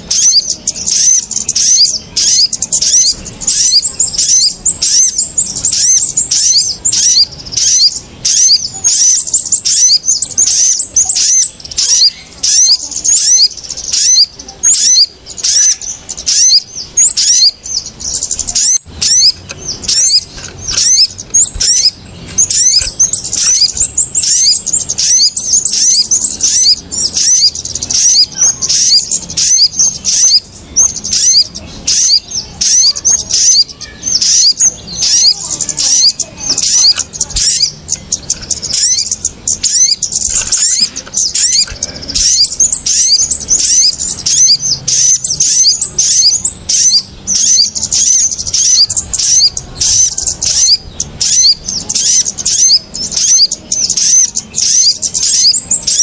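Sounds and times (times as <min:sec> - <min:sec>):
small birds chirping rapidly: 0:00.0 - 0:56.0.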